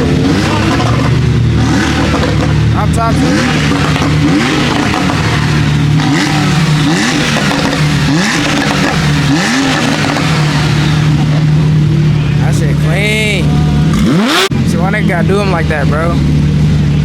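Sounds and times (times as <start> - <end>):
car exhaust drone: 0.0 - 17.0
engine revving: 0.0 - 17.0.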